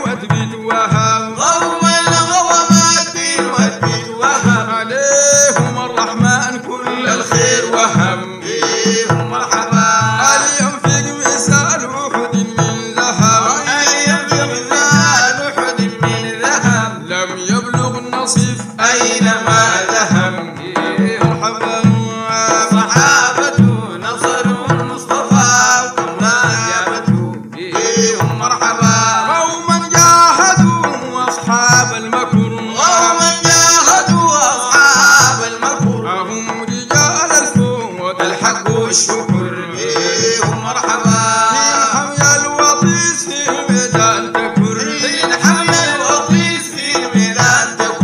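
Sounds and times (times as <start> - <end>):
steady drum beat: 0.0 - 48.0
voices singing a praise song: 0.0 - 48.0.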